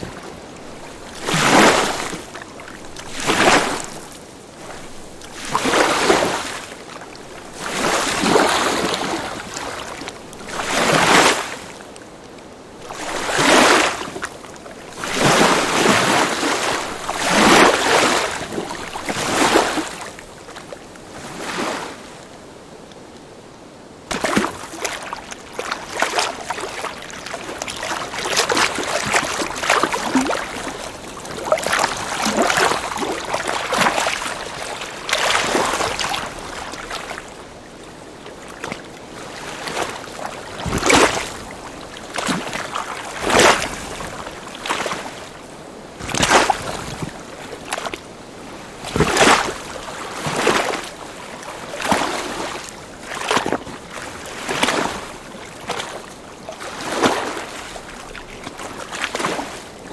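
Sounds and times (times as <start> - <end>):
lake waves lapping at shore: 0.0 - 59.9.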